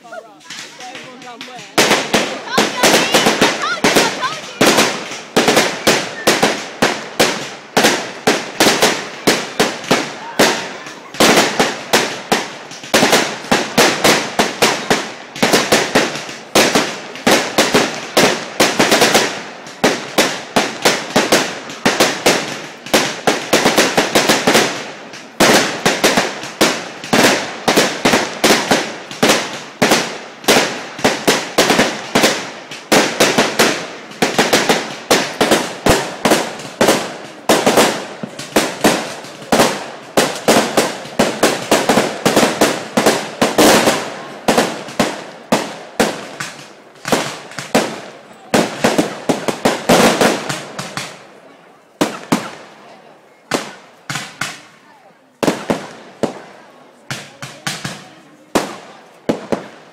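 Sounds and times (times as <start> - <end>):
fireworks banging: 0.0 - 59.9.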